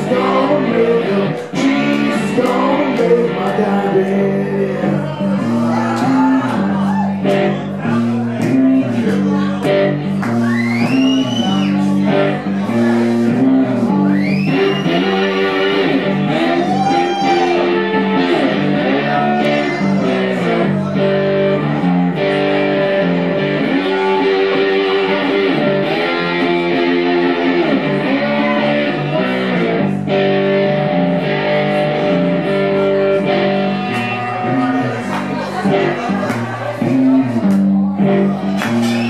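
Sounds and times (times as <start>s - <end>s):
blues electric guitar riffs: 0.0s - 39.0s.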